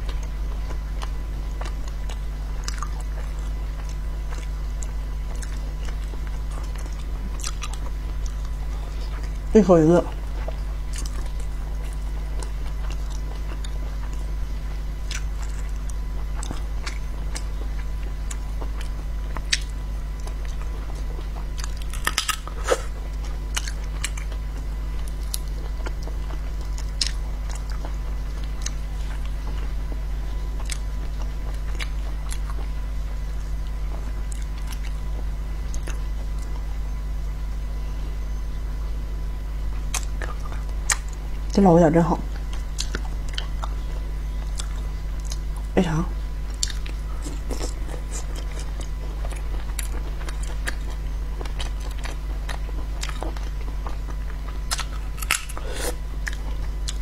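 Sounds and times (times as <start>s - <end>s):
chewing and biting: 0.0s - 9.5s, 10.1s - 36.6s, 39.8s - 41.5s, 42.3s - 45.8s, 46.4s - 57.0s
steady low hum: 0.0s - 57.0s.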